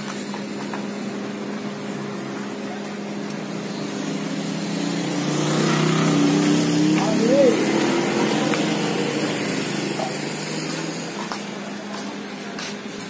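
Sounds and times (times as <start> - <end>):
passing street traffic: 0.0 - 13.0.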